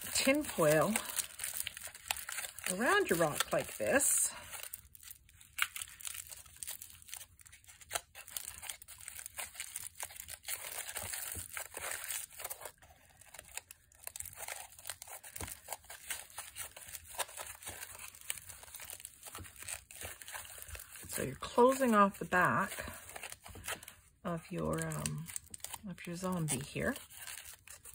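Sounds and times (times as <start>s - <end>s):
aluminium foil crinkling: 0.0s - 27.9s.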